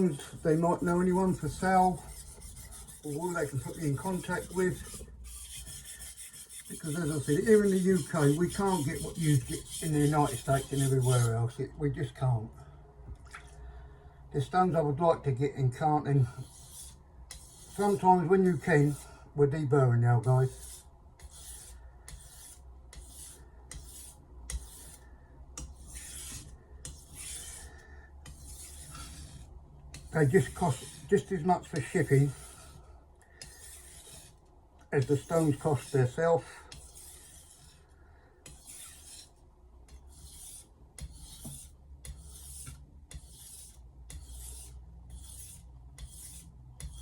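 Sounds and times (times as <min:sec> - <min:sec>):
knife rasping on whetstone: 0:00.0 - 0:11.4, 0:16.4 - 0:19.0, 0:20.5 - 0:25.0, 0:25.6 - 0:32.8, 0:33.4 - 0:34.4, 0:35.0 - 0:47.0.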